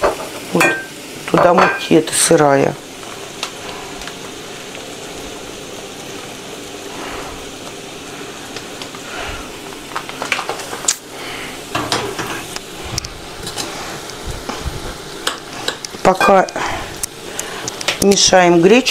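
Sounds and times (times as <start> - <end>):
mushrooms sizzling in a pan: 0.0 - 18.9.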